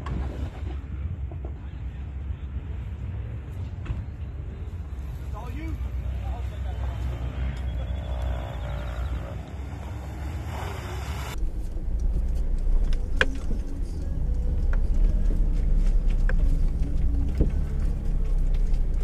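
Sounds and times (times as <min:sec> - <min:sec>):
engine running slowly: 0:03.2 - 0:19.0.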